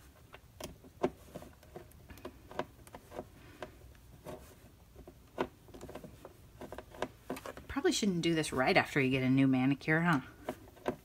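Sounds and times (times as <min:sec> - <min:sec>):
light scraping of metal and plastic: 0:00.0 - 0:08.8, 0:10.1 - 0:11.0.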